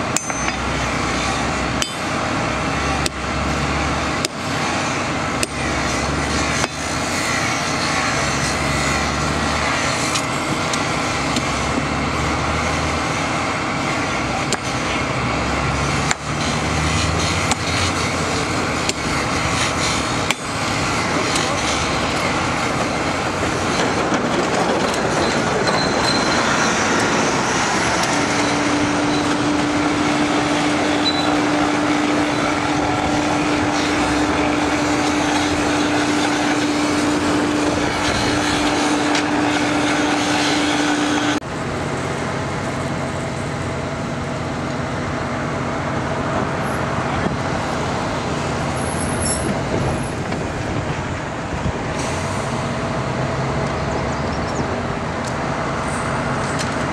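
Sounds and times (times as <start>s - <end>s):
machinery engine running: 0.0s - 56.9s.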